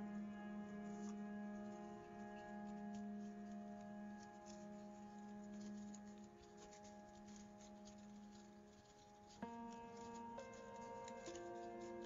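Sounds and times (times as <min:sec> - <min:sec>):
soft background music: 0:00.0 - 0:12.0
paper crackling and rustling: 0:00.9 - 0:12.0.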